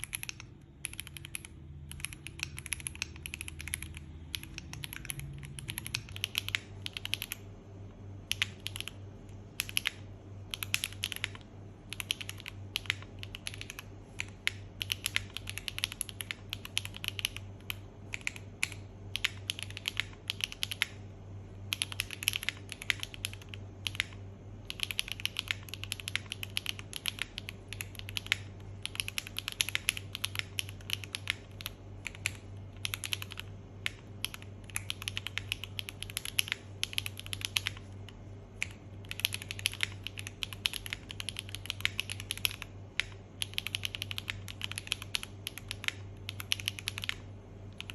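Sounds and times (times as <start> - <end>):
mechanical keyboard typing: 0.0 - 7.5, 8.2 - 47.9
faint low hum: 0.0 - 47.9.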